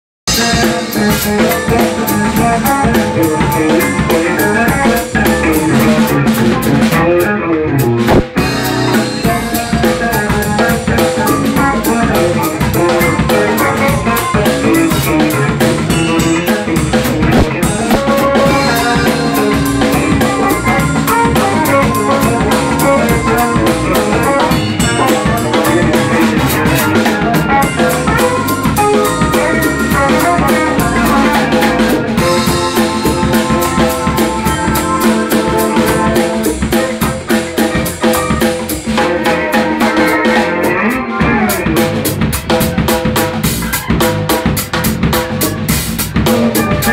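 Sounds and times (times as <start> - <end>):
drum kit: 0.3 - 46.9
electric bass: 0.3 - 46.9
guitar-like bass lines: 0.3 - 46.9.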